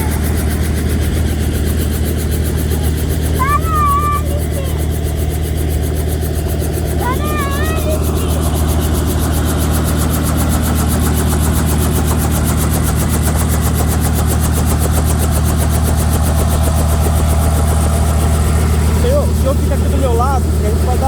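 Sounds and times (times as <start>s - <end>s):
helicopter rotor chop: 0.0s - 21.0s.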